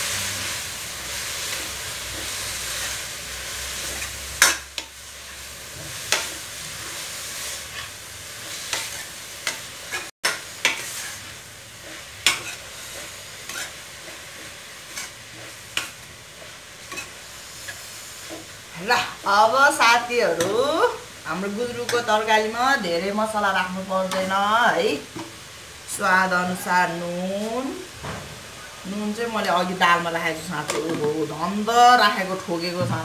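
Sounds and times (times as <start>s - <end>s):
vegetables frying in hot oil: 0.0s - 33.0s.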